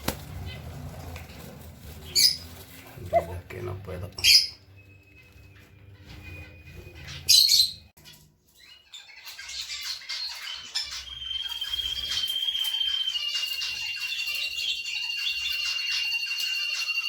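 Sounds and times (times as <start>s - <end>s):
birds twittering song: 0.0s - 17.0s
harsh bird calls: 0.0s - 17.0s.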